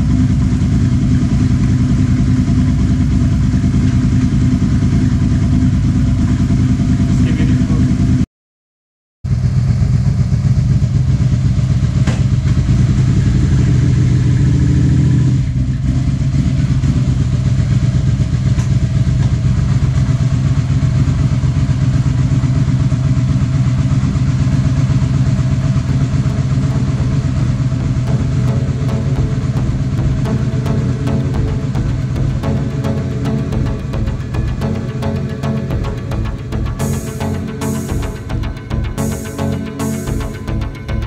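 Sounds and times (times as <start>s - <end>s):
motorcycle engine running: 0.0s - 8.2s, 9.3s - 41.0s.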